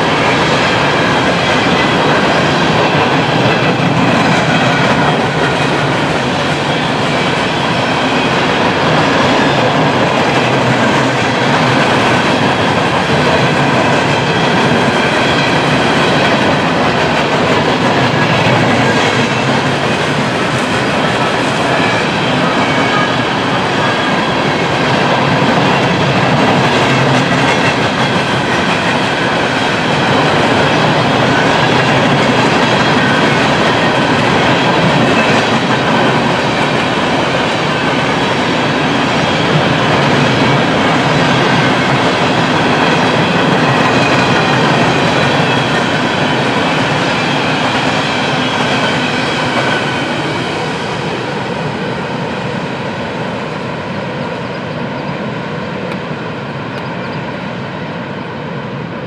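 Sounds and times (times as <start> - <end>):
train wheels clattering on rails: 0.0 - 58.6.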